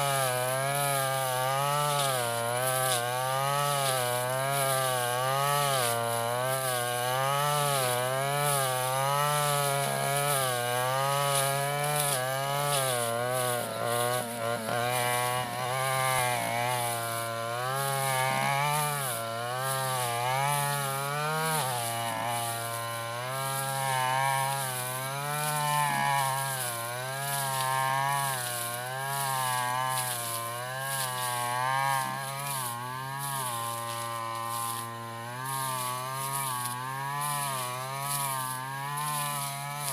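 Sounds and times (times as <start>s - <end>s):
brushcutter engine cutting grass: 0.0s - 39.9s.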